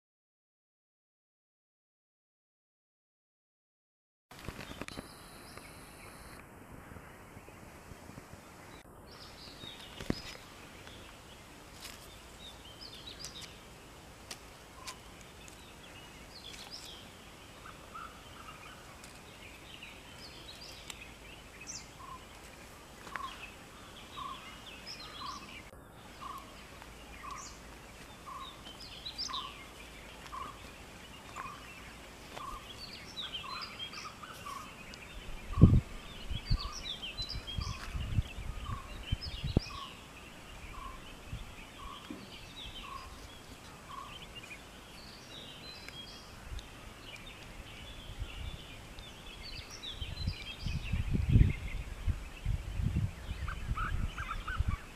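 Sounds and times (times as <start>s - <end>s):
birds chirping: 4.4s - 54.9s.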